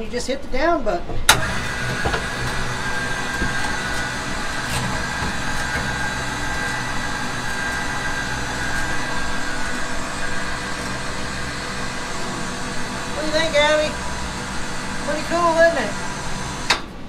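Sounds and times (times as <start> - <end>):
electric winch motor humming: 1.3 - 17.0.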